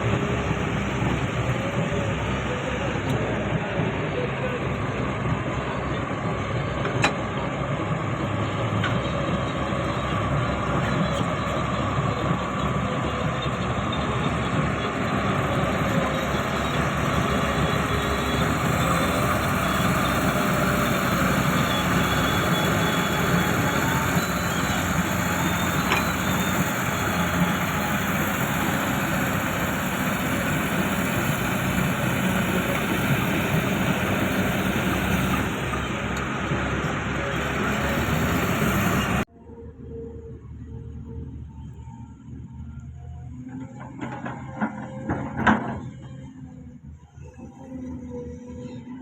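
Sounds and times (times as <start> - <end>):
bulldozer diesel engine running: 0.0 - 49.0.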